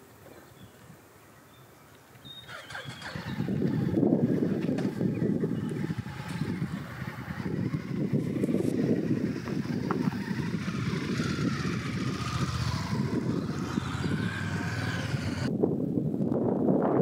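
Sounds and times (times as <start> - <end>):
wind buffeting microphone: 2.3 - 17.0.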